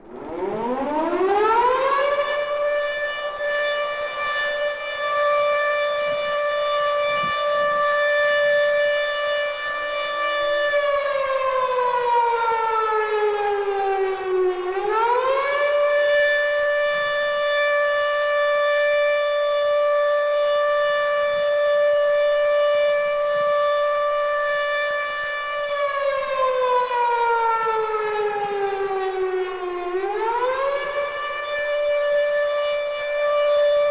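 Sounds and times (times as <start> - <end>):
air raid siren: 0.0 - 33.9.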